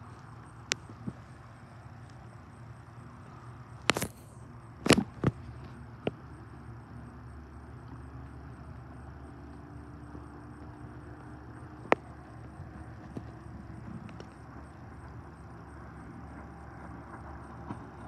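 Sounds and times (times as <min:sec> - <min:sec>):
faint steady hum: 0:00.0 - 0:18.0
wind: 0:00.0 - 0:18.0.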